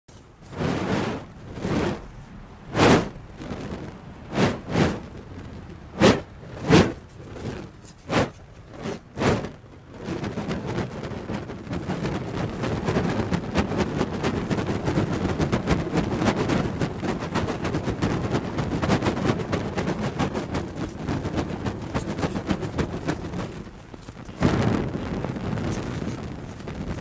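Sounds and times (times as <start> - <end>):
torch fire roaring and crackling: 0.1 - 27.0
torch swooshing through air: 0.1 - 27.0.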